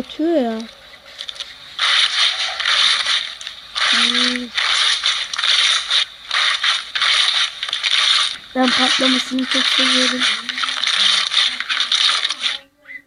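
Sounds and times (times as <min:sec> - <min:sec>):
slime crackling and popping: 0:01.2 - 0:12.6.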